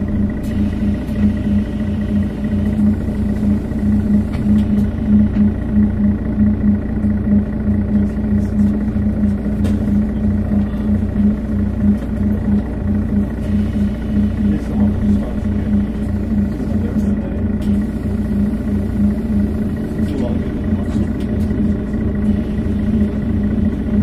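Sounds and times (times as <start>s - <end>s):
bus diesel engine idling: 0.0s - 24.0s.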